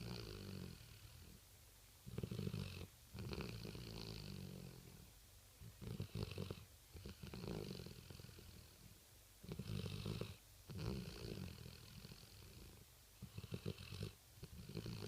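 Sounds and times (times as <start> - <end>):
dog snoring: 0.0 - 1.4, 2.0 - 5.1, 5.7 - 15.0.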